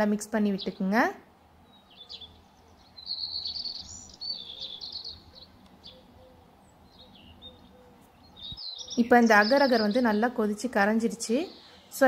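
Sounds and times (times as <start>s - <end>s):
small birds chirping: 0.3s - 12.0s.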